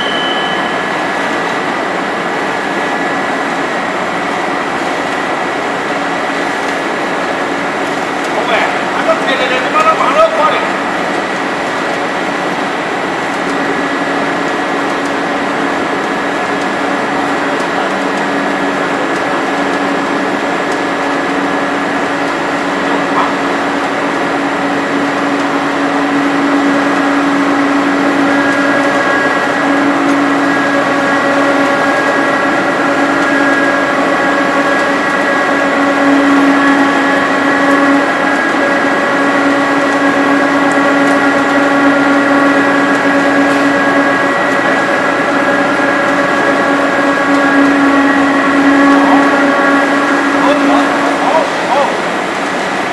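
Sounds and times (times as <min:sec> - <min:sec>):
machine humming with whine: 0:00.0 - 0:52.9.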